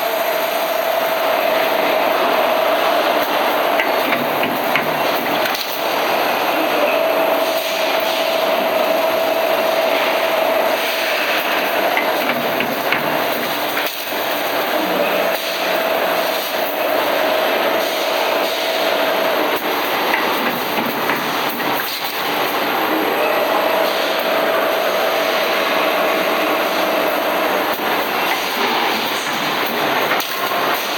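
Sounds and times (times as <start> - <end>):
cutting machine running: 0.0 - 30.9
machine whine: 0.0 - 30.9.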